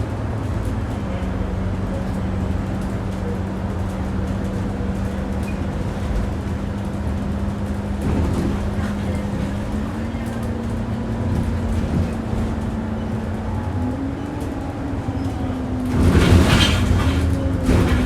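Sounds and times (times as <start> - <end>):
bus engine drone with whine: 0.0 - 18.0
road rumble: 0.0 - 18.0.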